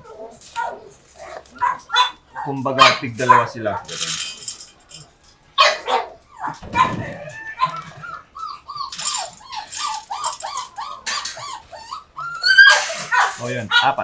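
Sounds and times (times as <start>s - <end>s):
puppies whimpering and yipping: 0.0s - 4.0s, 5.6s - 14.0s
dry kibble rattling: 0.0s - 14.0s.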